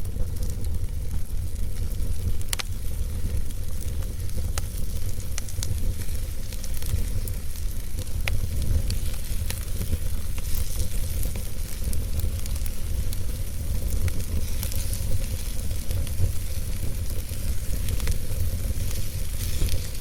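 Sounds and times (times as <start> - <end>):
fire crackles and pops: 0.0 - 20.0
wood fire burning: 0.0 - 20.0.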